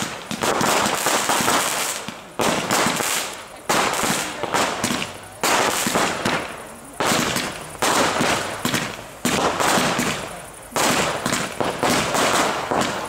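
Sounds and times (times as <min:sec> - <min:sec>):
fireworks bangs and crackle: 0:00.0 - 0:13.0.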